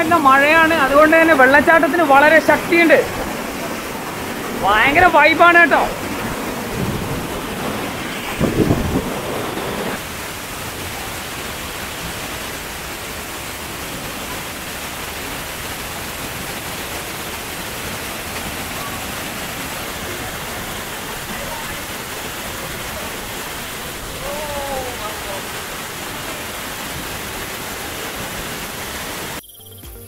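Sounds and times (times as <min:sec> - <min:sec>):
waterfall rushing: 0:00.0 - 0:29.4.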